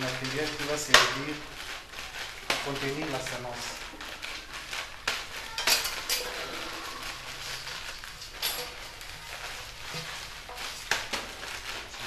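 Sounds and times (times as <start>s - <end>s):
burner flame hissing: 0.0s - 12.0s.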